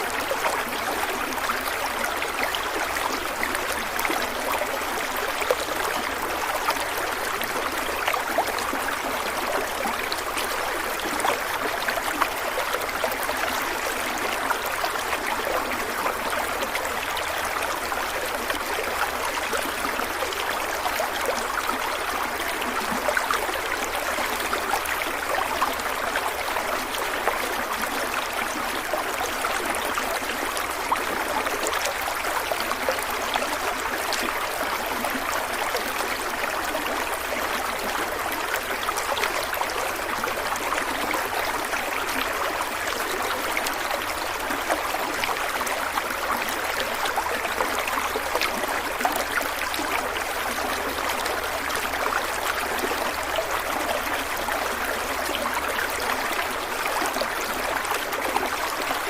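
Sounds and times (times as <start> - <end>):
small stream trickling: 0.0 - 59.0.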